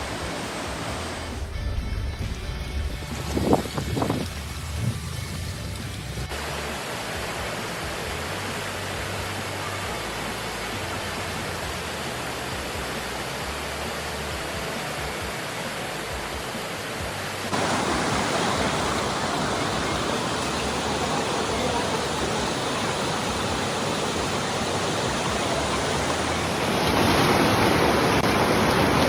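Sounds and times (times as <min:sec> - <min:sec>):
waterfall rushing: 0:00.0 - 0:01.7, 0:06.2 - 0:29.0.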